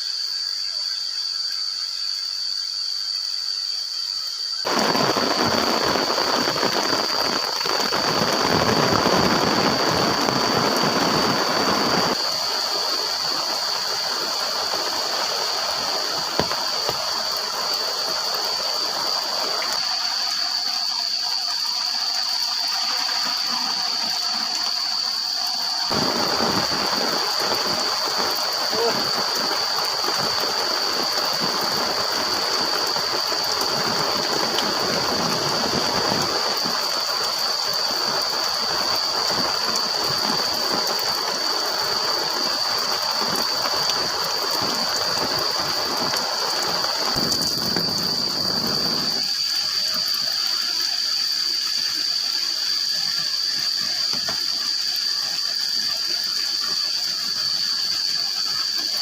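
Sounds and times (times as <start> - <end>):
rain pattering on plastic tarp: 4.6 - 59.0.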